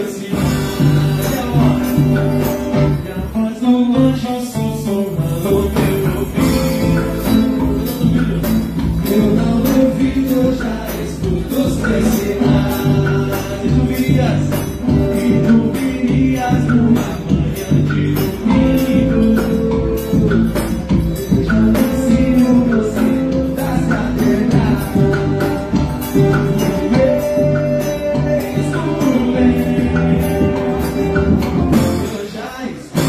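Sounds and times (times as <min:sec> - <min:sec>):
band playing: 0:00.0 - 0:33.0
bass: 0:00.0 - 0:33.0
guitar: 0:00.0 - 0:33.0
triangle beat: 0:05.4 - 0:32.2.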